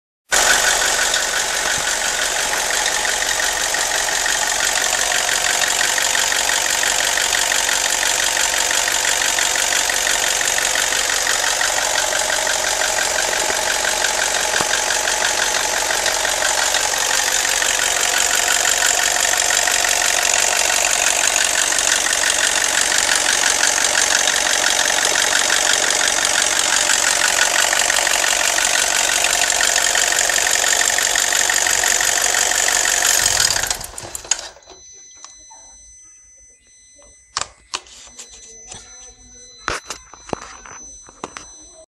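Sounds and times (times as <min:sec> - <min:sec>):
fast ticking clatter: 0:00.3 - 0:34.6
car engine running: 0:00.3 - 0:34.8.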